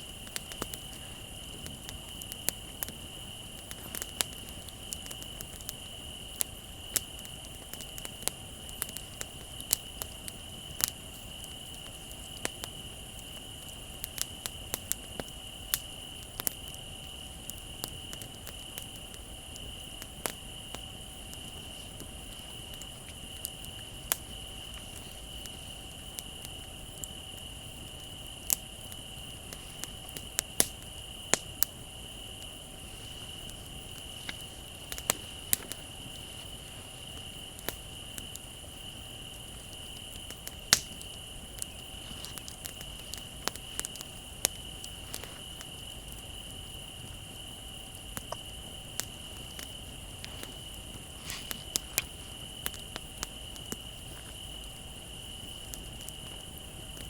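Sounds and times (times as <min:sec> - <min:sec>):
bonfire crackling and popping: 0:00.0 - 0:57.0
crickets trilling: 0:00.0 - 0:57.0.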